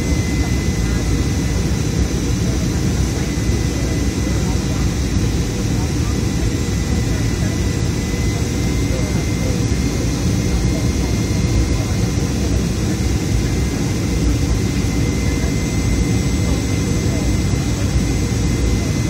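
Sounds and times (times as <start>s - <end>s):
jet engine cabin roar: 0.0s - 19.0s.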